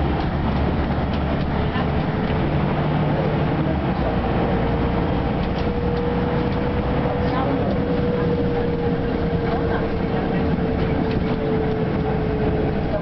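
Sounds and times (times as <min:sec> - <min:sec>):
bus diesel engine drone: 0:00.0 - 0:13.0
road and body noise: 0:00.0 - 0:13.0.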